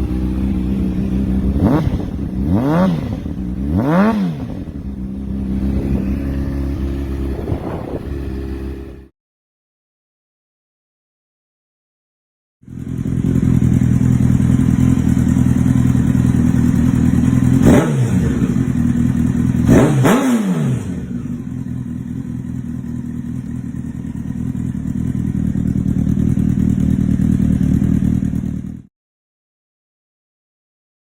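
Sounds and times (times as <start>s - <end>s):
motorcycle engine idling and revving: 0.0s - 9.1s, 12.6s - 28.9s.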